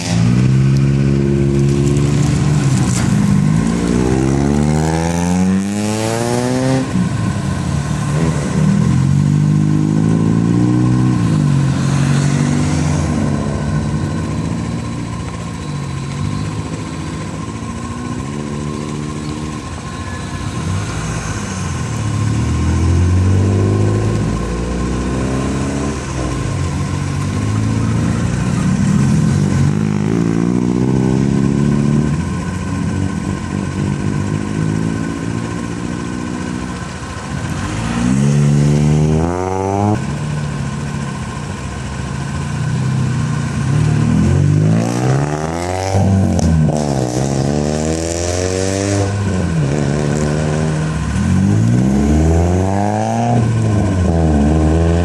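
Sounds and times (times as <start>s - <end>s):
small car engines revving: 0.0s - 55.0s.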